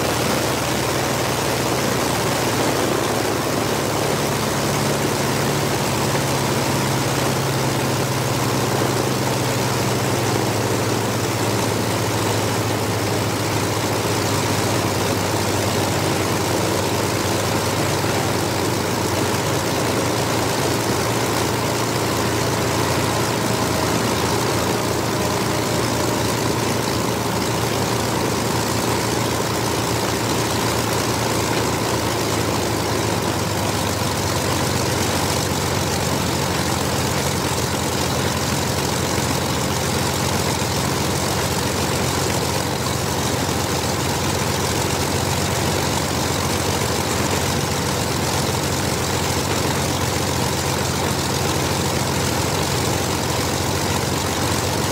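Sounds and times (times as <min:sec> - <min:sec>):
aircraft engines droning: 0:00.0 - 0:54.9.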